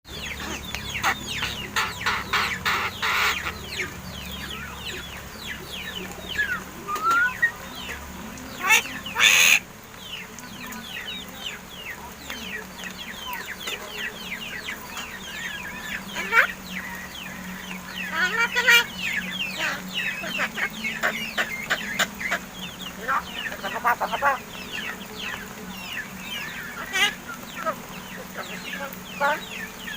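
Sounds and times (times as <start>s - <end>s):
birds chirping: 0.0s - 29.9s.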